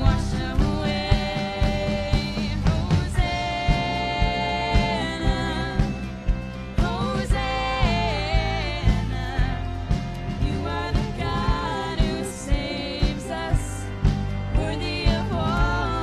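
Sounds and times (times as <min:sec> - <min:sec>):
band playing with drums: 0:00.0 - 0:16.0
voices singing: 0:00.0 - 0:16.0.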